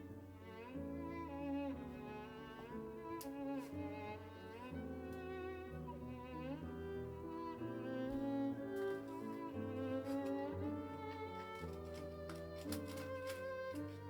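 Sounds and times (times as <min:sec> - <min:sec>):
violin and cello music: 0:00.0 - 0:14.0.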